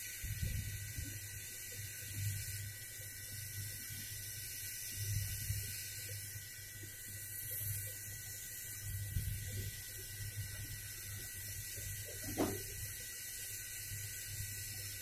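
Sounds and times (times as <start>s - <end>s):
hot-air rework station blowing: 0.0s - 13.1s.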